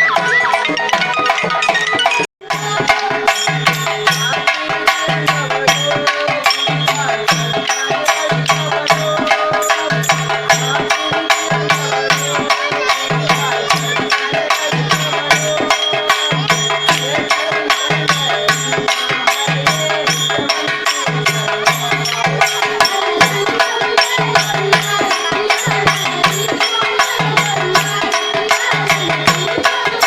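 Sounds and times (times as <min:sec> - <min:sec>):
pulsing drum: 0:00.0 - 0:30.0.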